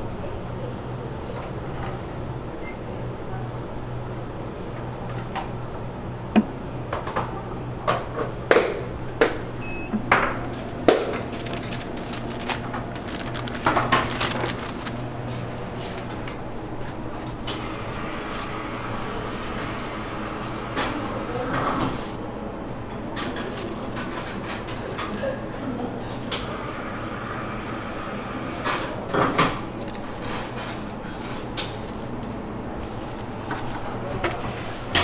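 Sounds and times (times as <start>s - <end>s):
refrigeration hum: 0.0s - 35.0s.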